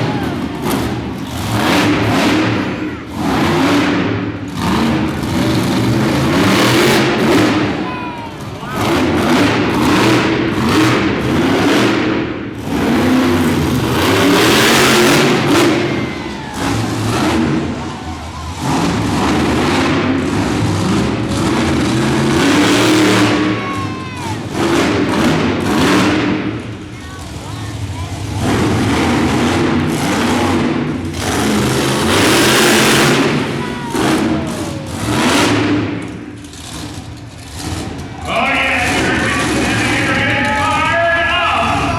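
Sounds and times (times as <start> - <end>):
monster truck engine revving: 0.0 - 41.9.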